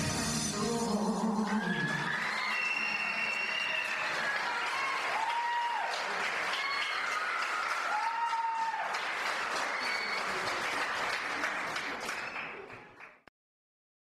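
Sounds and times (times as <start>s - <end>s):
audience applauding: 1.4s - 13.3s.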